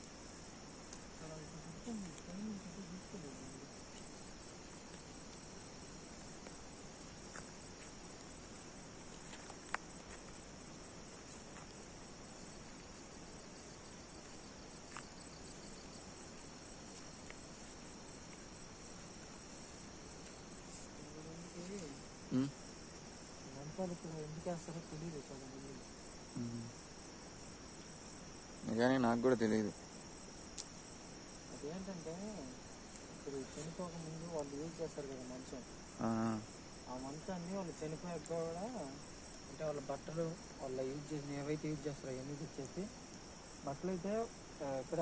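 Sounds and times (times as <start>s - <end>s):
night insects chirping: 0.0s - 45.0s.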